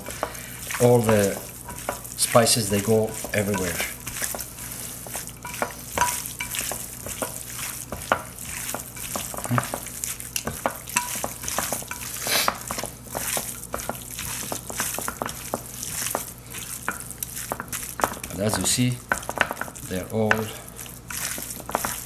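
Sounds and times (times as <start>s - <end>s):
hands squishing oily meat: 0.0s - 22.0s.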